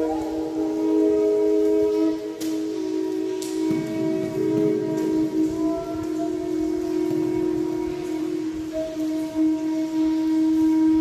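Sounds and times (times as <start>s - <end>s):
drone flute playing: 0.0s - 11.0s.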